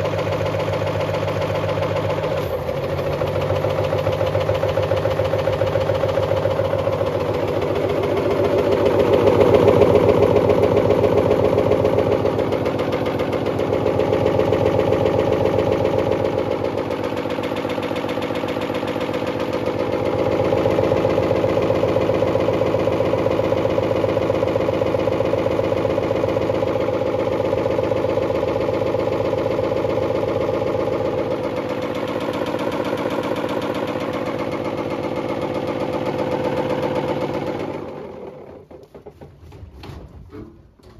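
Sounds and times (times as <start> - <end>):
washing machine drum turning: 0.0 - 40.9
washing machine motor hum: 0.0 - 40.9.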